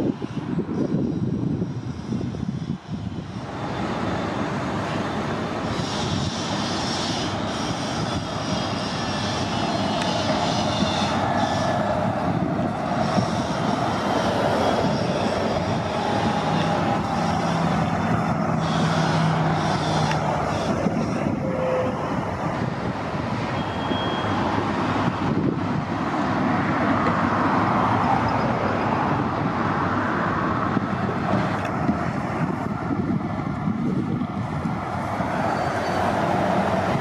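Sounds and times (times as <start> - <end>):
bus engines running: 0.0 - 37.0.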